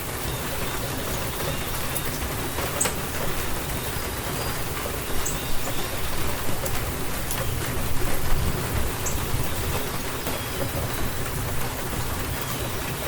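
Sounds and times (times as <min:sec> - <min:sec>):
rain hissing on surfaces: 0:00.0 - 0:13.0
raindrops ticking: 0:00.0 - 0:13.0.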